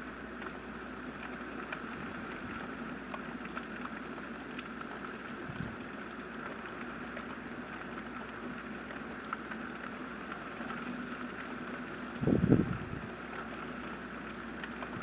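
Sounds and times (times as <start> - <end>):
faint drips: 0.0 - 15.0.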